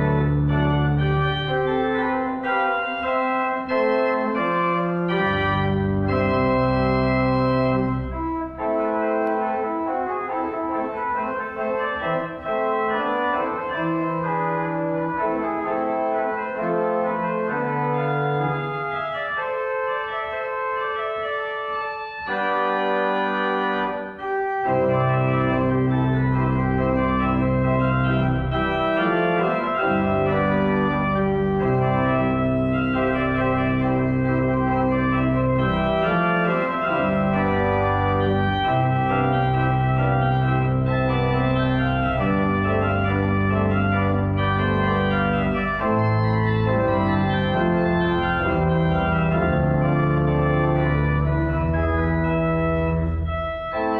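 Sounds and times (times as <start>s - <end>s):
organ chords: 0.0s - 53.9s.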